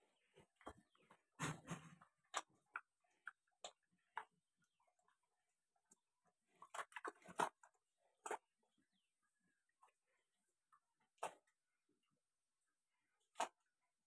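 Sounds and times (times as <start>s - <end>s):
pig eating wet feed: 0.0s - 12.1s.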